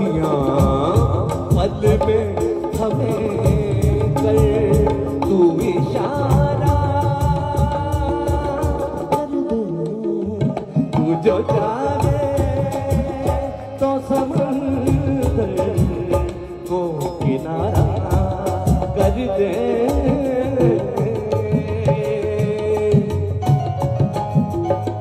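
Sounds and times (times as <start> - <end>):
keyboard and harmonium melody: 0.0 - 25.0
tabla and dholak rhythm: 0.0 - 25.0.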